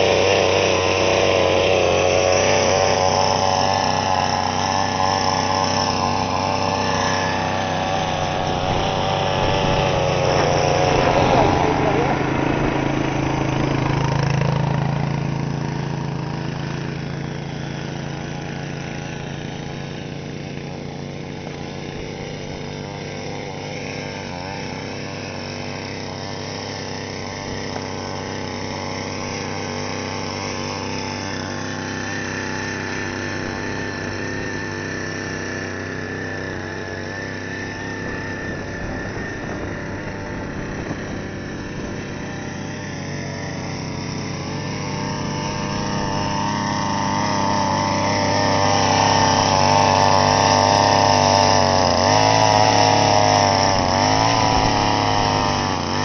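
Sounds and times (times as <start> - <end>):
small engine humming: 0.0 - 56.0.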